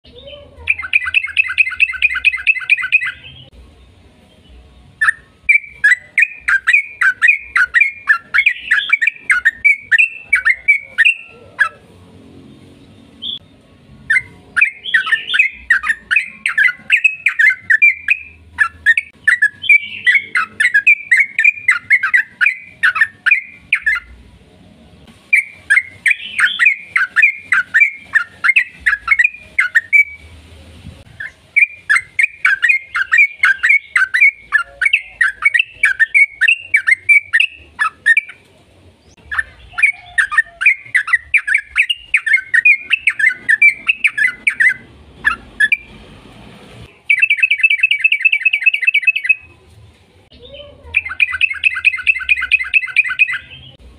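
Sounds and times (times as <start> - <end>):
bird chattering song: 0.0 - 3.6, 4.3 - 11.8, 14.1 - 24.2, 25.3 - 30.3, 31.1 - 46.0, 46.9 - 49.5, 50.3 - 53.8.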